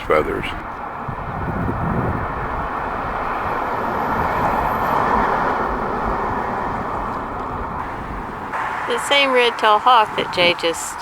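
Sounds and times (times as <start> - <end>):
road vehicle passing by: 0.4 - 11.0.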